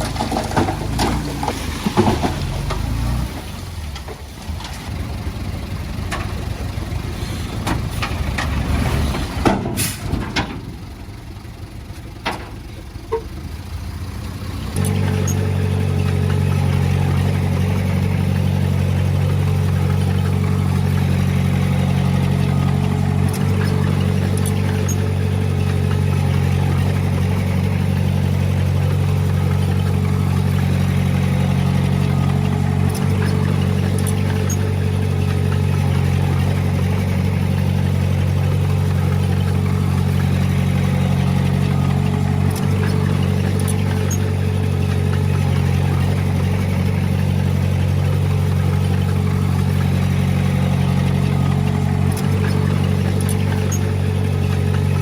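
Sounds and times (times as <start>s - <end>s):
diesel engine running: 0.0s - 55.0s
engine knocks: 0.0s - 55.0s.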